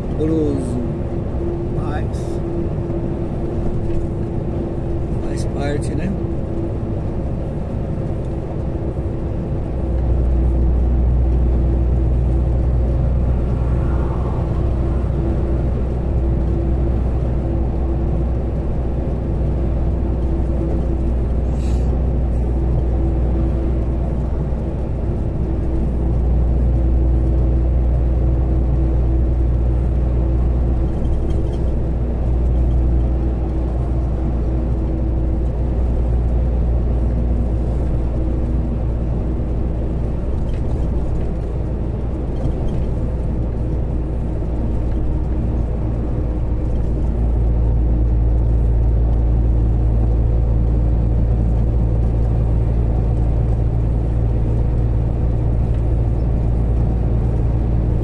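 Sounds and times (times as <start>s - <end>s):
constant hum: 0.0s - 58.0s
road noise: 0.0s - 58.0s
truck engine drone: 0.0s - 58.0s.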